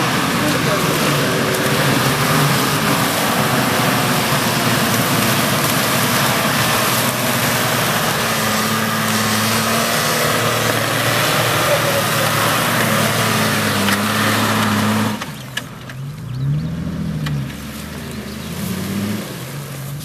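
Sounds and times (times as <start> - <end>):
suv engine running: 0.0 - 20.0.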